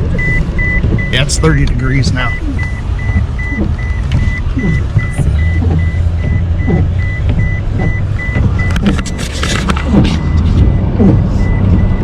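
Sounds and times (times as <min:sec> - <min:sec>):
car engine and road hum: 0:00.0 - 0:12.0
high electronic warning beep: 0:00.2 - 0:12.0.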